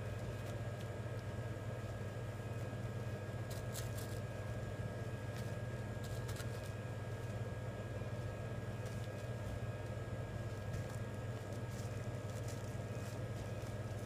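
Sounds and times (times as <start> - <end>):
low machinery hum: 0.0 - 14.0.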